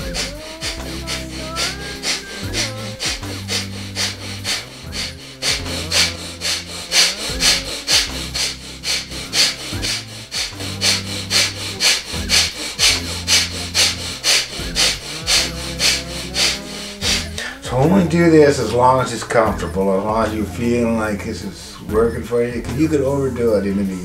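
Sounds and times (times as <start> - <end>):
forceful rhythmic breathing: 0.0 - 24.0.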